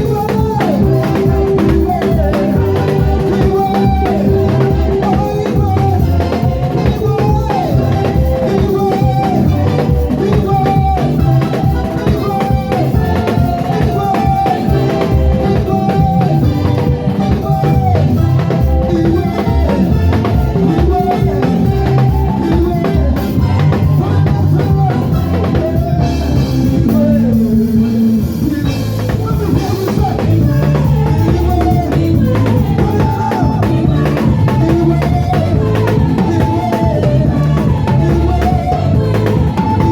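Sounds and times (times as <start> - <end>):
drum kit beat: 0.0 - 39.9
gospel band playing: 0.0 - 39.9.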